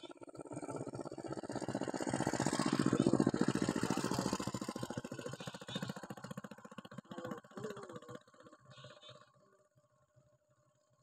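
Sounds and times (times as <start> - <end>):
small engine passing by: 0.0 - 11.0.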